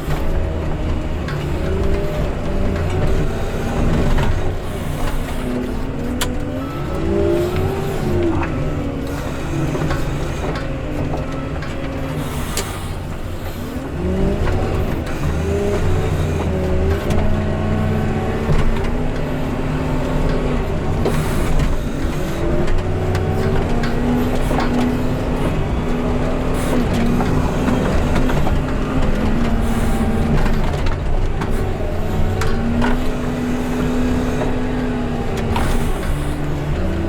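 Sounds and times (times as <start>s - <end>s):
heavy machine engine revving: 0.0s - 37.0s.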